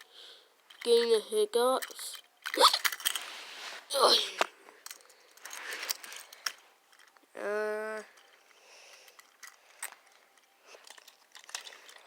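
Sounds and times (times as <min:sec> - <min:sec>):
toys clicking: 0:00.7 - 0:03.2, 0:04.4 - 0:12.0.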